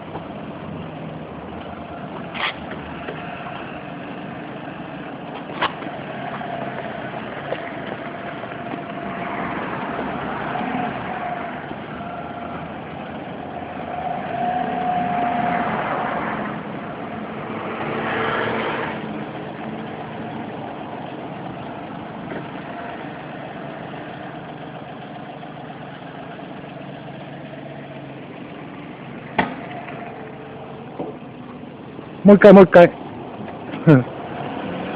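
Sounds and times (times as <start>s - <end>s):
car engine revving: 0.0s - 32.4s, 33.6s - 34.9s.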